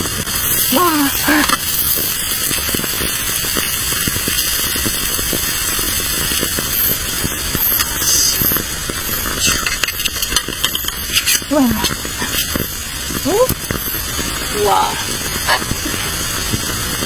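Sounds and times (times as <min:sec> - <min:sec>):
fire crackles: 0:00.0 - 0:17.0
food sizzling over a fire: 0:00.0 - 0:17.0.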